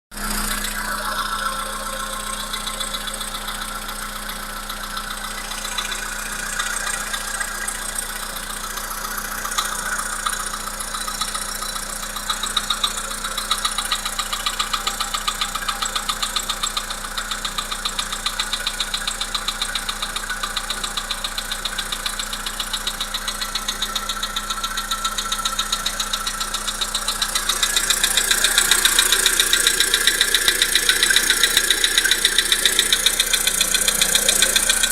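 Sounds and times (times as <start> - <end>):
car engine knocking: 0.1 - 34.9.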